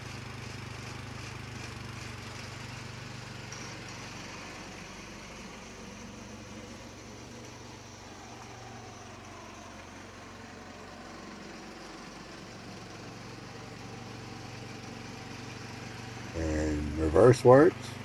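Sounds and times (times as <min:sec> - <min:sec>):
riding mower engine running: 0:00.0 - 0:18.0.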